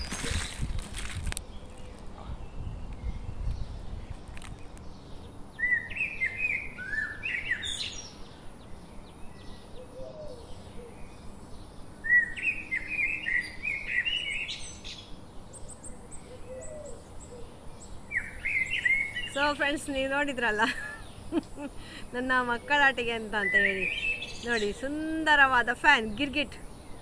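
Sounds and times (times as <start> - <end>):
bird singing chirped notes: 1.4 - 21.6, 22.2 - 27.0.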